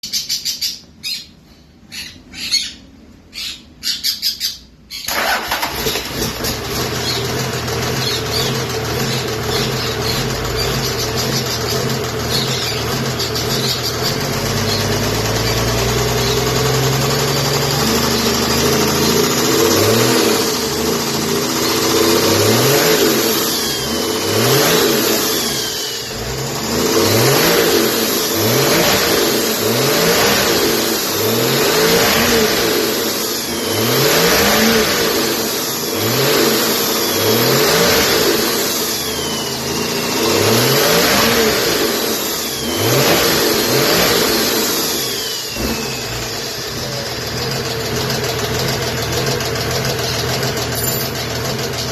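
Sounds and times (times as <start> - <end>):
diesel engine revving: 5.1 - 51.9.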